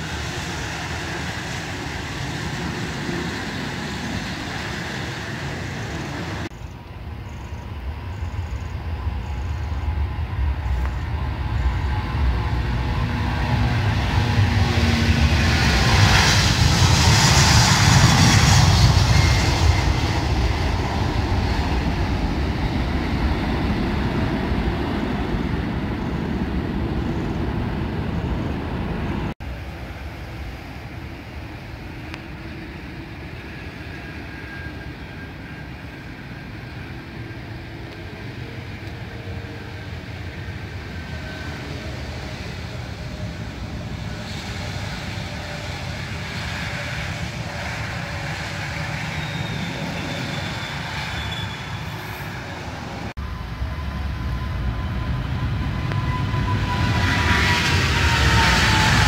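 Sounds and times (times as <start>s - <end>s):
airliner rolling on runway: 0.0s - 59.0s
faint engine whine: 0.0s - 59.0s
jet engines at takeoff: 0.0s - 59.0s.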